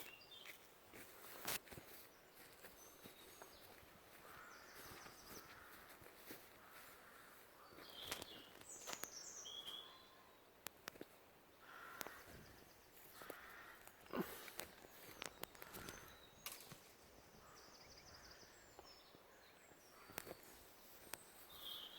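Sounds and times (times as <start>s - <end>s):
faint forest ambience: 0.0s - 21.9s.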